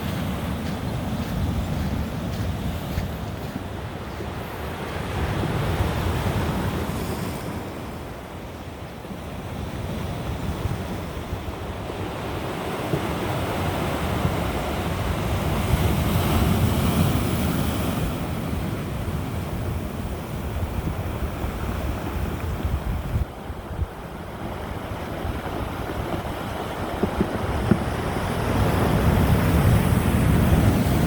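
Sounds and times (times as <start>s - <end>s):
wind buffeting microphone: 0.0s - 8.8s, 9.4s - 31.0s
ocean surf washing ashore: 0.0s - 31.0s.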